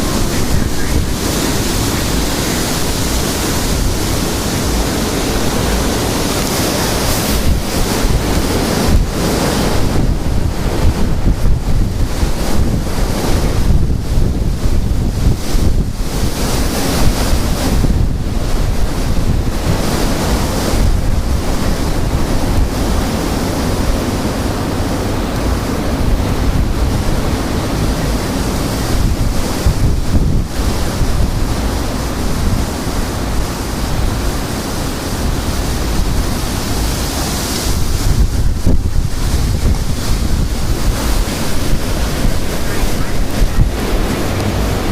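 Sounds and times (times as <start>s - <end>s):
strong gusting wind on microphone: 0.0s - 44.9s.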